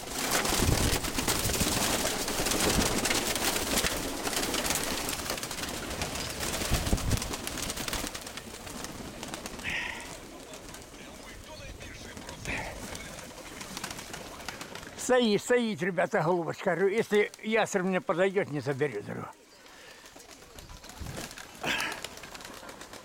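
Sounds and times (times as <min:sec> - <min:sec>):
pigeons fluttering and rustling: 0:00.0 - 0:15.7, 0:16.6 - 0:23.0.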